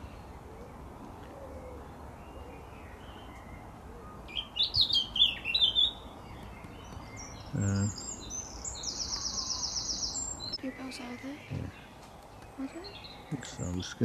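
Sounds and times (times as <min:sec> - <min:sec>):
low outdoor background: 0:00.0 - 0:14.0
songbird twittering: 0:01.5 - 0:14.0.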